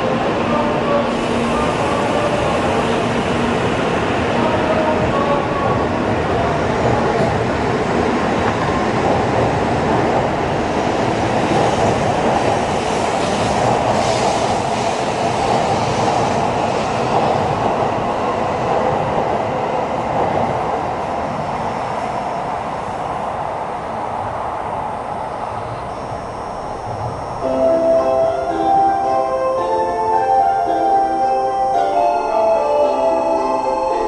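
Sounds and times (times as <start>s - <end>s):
high-speed train rushing: 0.0s - 34.0s.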